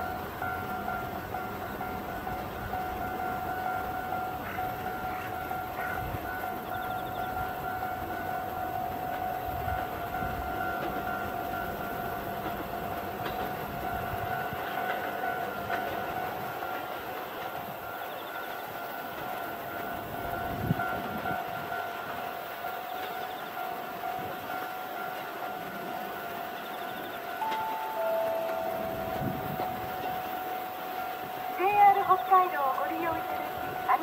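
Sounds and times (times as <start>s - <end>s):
steady high ringing tone: 0.0s - 34.0s
train rumbling: 0.0s - 34.0s.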